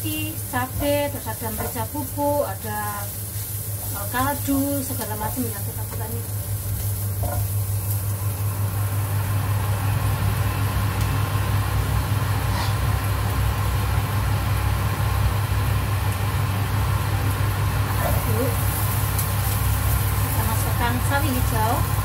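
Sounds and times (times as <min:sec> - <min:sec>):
continuous low hum: 0:00.0 - 0:22.0
vegetables sizzling in hot oil: 0:00.0 - 0:22.0.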